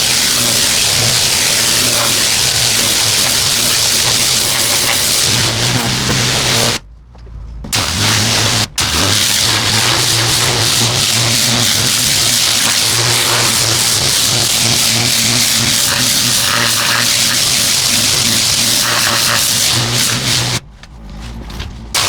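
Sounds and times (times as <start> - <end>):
pressure washer spraying concrete: 0.0 - 6.8, 7.8 - 20.6.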